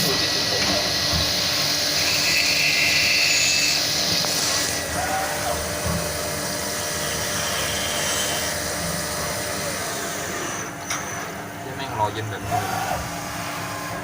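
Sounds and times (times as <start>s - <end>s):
milling machine cutting metal: 0.0s - 14.0s.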